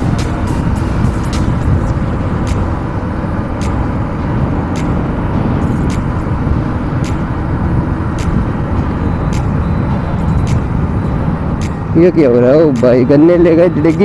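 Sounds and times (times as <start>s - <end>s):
motorcycle engine cruising: 0.0s - 14.0s
wind rushing: 0.0s - 14.0s.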